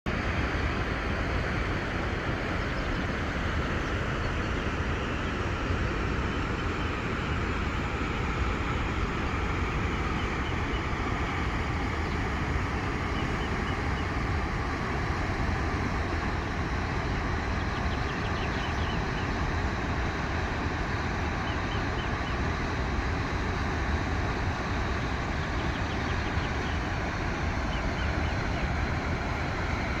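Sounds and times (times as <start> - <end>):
rushing white water roar: 0.1 - 30.0.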